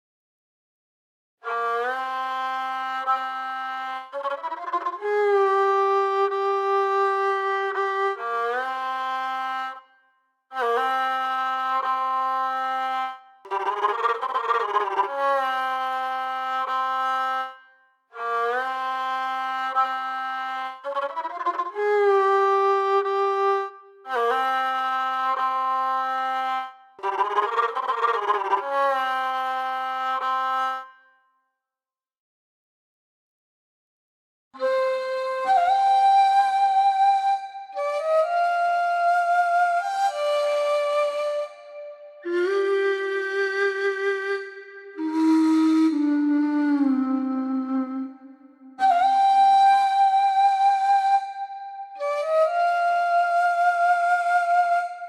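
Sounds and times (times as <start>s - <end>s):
bowed string melody: 1.4s - 9.9s, 10.6s - 30.9s, 34.6s - 55.0s.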